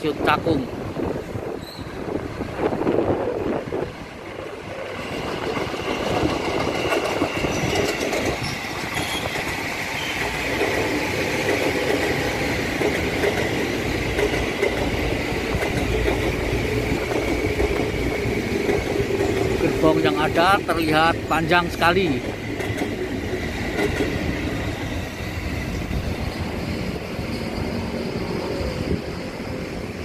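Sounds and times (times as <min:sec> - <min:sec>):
high train whine: 0:00.0 - 0:30.0
electric train clattering past: 0:00.1 - 0:30.0.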